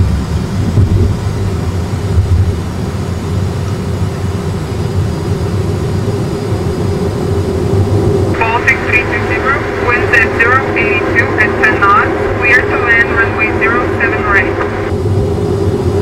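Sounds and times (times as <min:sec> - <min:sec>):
airflow and engines rumbling: 0:00.0 - 0:16.0.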